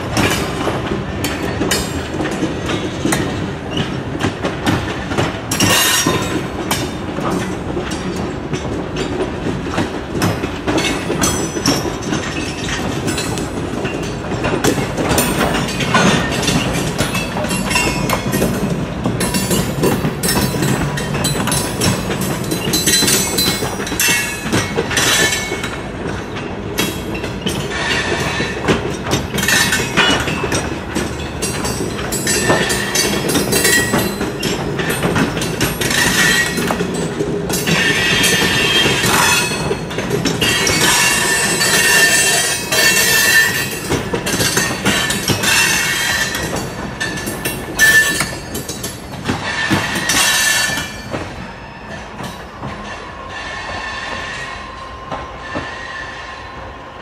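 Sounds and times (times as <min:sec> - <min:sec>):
wheels clacking over rail joints: 0:00.0 - 0:55.8.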